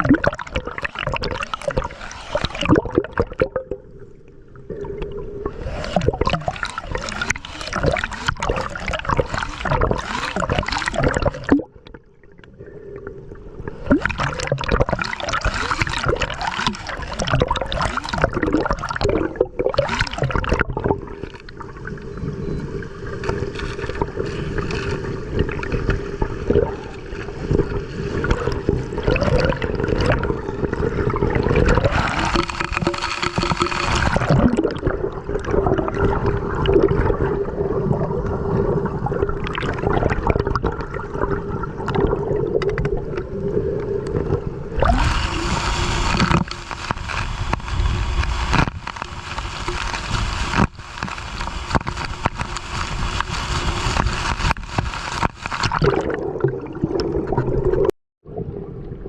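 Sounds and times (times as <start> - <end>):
muffled underwater gurgling: 0.0 - 59.0.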